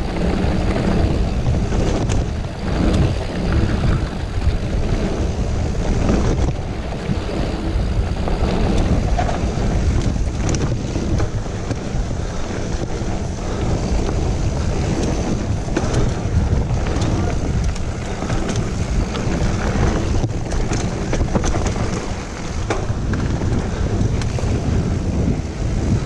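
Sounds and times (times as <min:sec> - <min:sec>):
bike clicks and rattles: 0:00.0 - 0:26.0
bike tyres rumbling on dirt: 0:00.0 - 0:26.0
wind buffeting microphone: 0:00.0 - 0:26.0.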